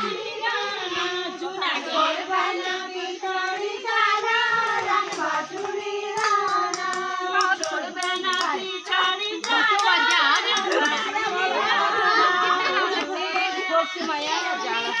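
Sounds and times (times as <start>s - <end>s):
women singing a folk song: 0.0s - 15.0s.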